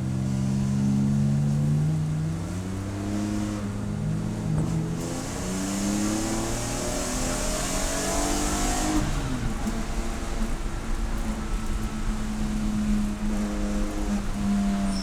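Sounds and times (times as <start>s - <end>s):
race car engine accelerating: 1.4s - 15.0s.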